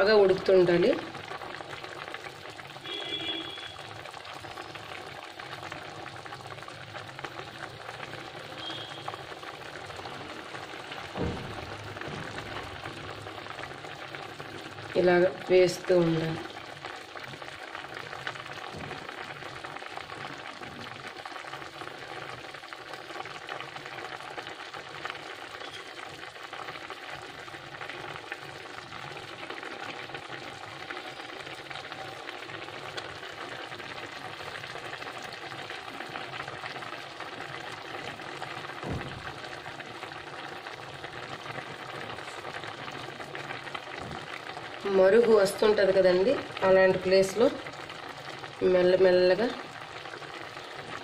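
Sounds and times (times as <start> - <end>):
gravy boiling in a pan: 0.0 - 51.0.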